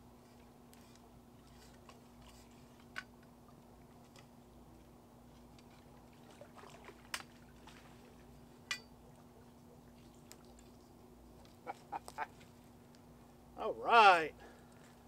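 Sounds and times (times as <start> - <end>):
low steady hum: 0.0 - 15.0
light water splashes: 0.4 - 13.0.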